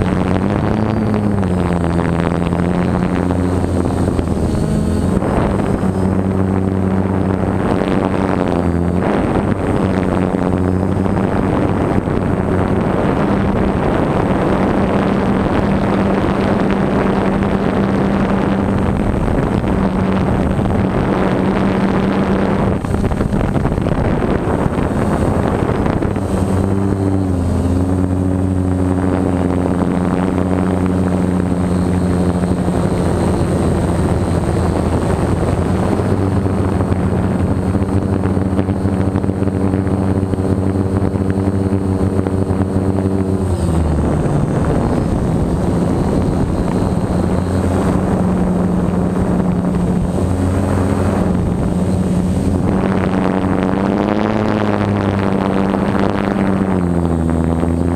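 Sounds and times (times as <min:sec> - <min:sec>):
drone motors whirring: 0:00.0 - 0:57.9
rushing air noise: 0:00.0 - 0:57.9.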